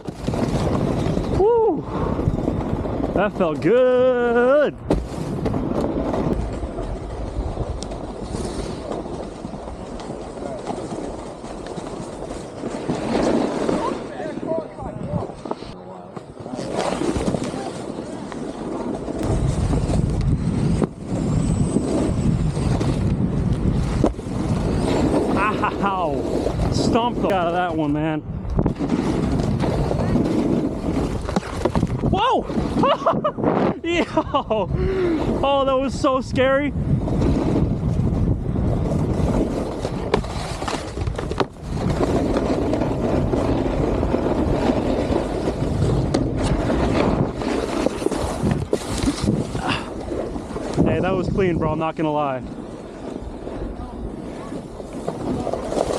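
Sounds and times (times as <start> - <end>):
snowboard scraping over snow: 0.0 - 55.9
wind rushing over microphone: 0.0 - 55.9.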